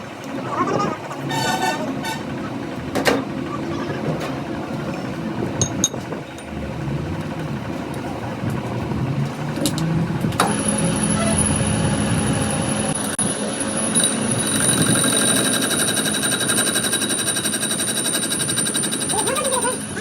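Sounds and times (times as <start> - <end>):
machine pulsing and whining: 0.0 - 20.0.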